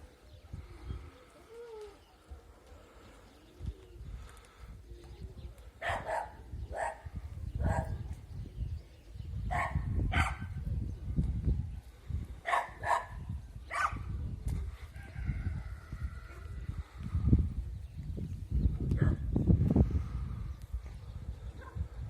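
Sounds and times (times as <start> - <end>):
wind buffeting microphone: 0.0 - 2.5, 3.3 - 22.0.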